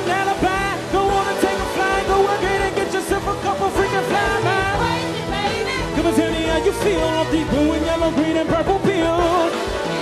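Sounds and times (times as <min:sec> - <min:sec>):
live pop-rock band: 0:00.0 - 0:10.0
person singing: 0:00.0 - 0:10.0.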